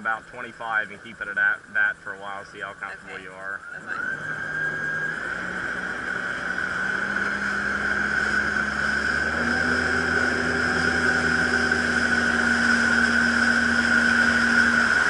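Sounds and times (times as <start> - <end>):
high whine: 0.0 - 15.0
jet ski engine running: 0.0 - 15.0.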